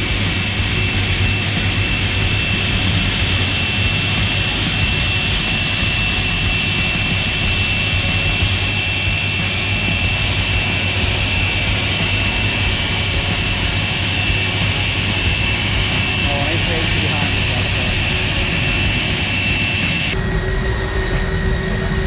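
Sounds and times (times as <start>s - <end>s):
jet engines whining at taxi power: 0.0s - 22.0s.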